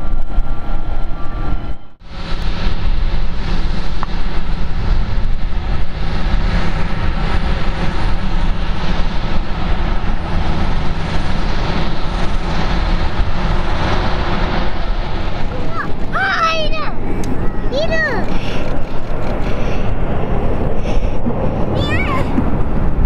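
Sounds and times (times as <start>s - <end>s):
jet aircraft rushing noise: 0.0s - 23.0s.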